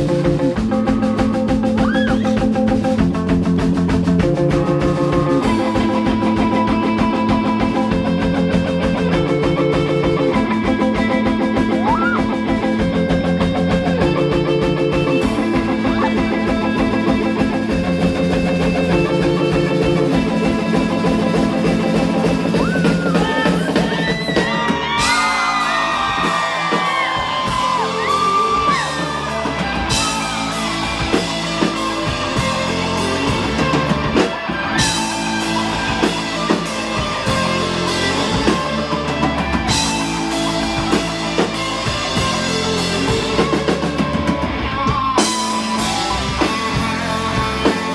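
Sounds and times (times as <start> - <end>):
high lead guitar line bending: 0.0 - 47.9
live rock band playing: 0.0 - 47.9.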